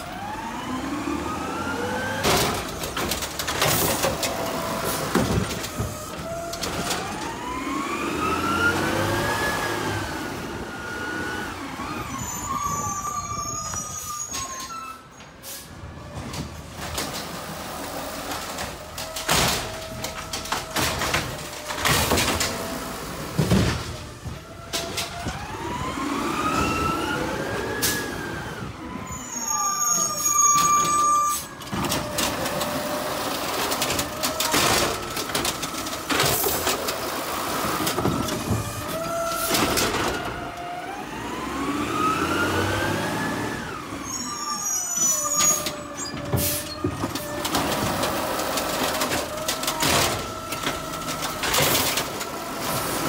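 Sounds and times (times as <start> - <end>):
garbage truck engine revving: 0.0 - 13.2, 15.9 - 29.5, 30.3 - 53.0
trash cart clanking and banging: 0.0 - 53.0.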